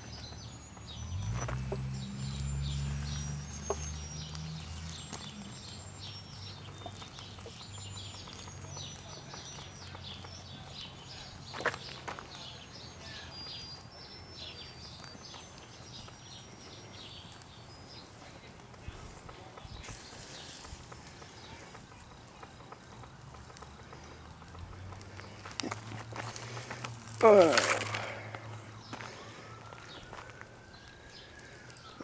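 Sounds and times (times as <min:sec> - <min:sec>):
light crackling: 0:00.0 - 0:32.0.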